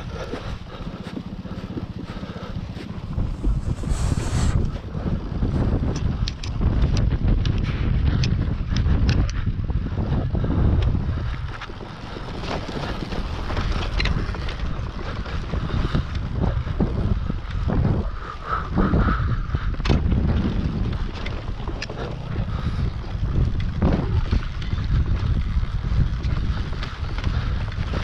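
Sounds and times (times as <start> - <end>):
dirt bike rumbling and rattling: 0.0 - 28.0
wind buffeting microphone: 0.0 - 28.0.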